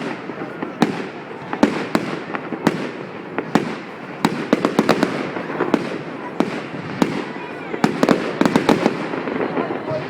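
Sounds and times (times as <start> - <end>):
fireworks bangs: 0.0 - 10.0
fireworks crackling hiss: 0.0 - 10.0.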